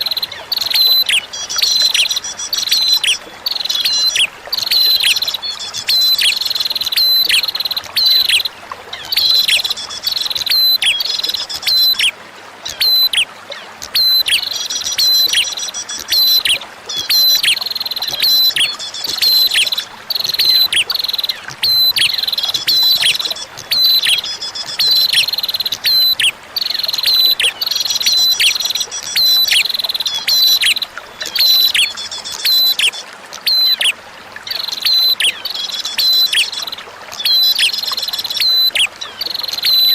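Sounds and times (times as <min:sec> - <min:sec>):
bird calling sharp notes: 0:00.0 - 0:39.9
trickling water: 0:00.0 - 0:39.9.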